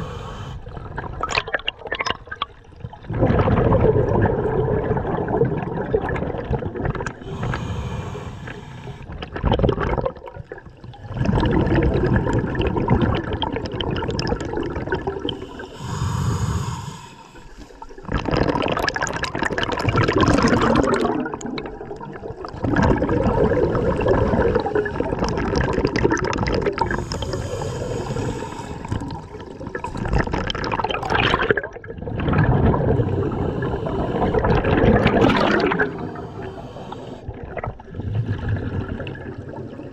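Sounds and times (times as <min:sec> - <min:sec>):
regulator bubbles gurgling underwater: 0:00.0 - 0:39.9.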